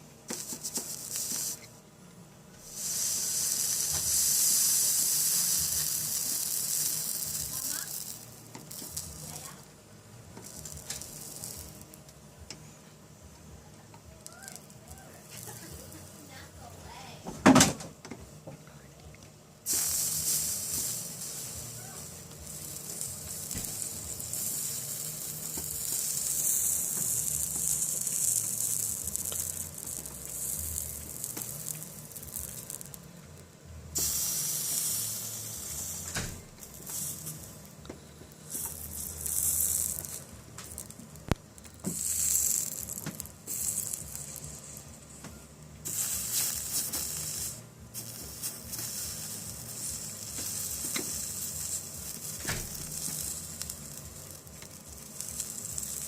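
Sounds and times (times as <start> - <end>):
soldering iron sizzling: 0.0 - 56.0.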